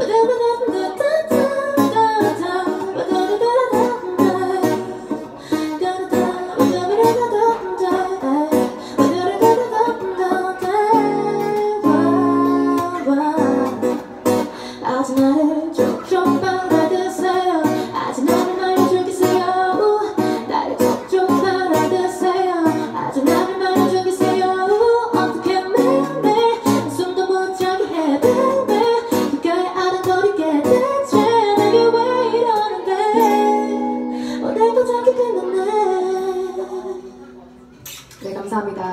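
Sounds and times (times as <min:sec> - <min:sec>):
woman singing into microphone: 0:00.0 - 0:37.5
plucked acoustic guitar: 0:00.0 - 0:38.2.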